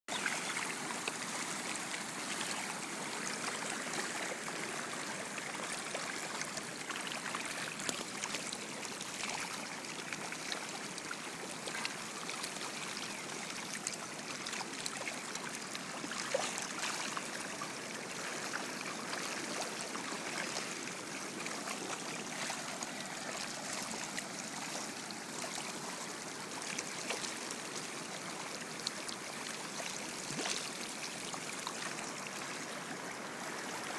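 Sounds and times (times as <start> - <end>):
water rushing: 0.1 - 33.9.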